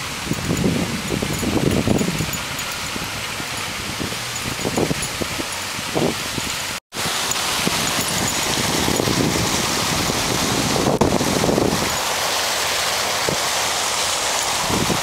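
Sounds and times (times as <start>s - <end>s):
wind buffeting microphone: 0.0s - 12.1s, 14.6s - 15.0s.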